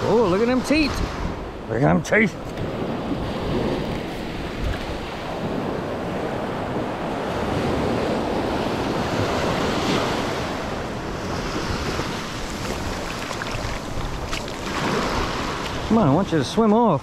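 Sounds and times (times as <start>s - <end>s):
waves breaking on sand: 0.0s - 17.0s.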